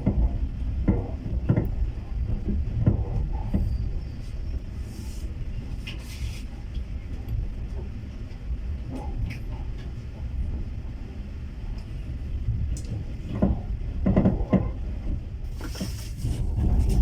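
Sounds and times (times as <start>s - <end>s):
train carriage rumbling on rails: 0.0s - 17.0s.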